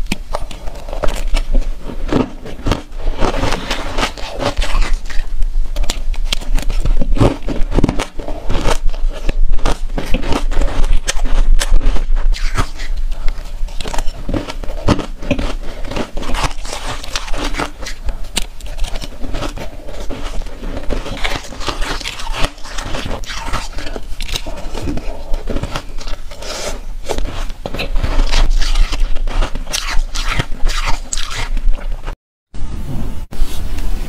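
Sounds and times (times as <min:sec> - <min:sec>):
crunching ice while chewing: 0:00.3 - 0:32.2.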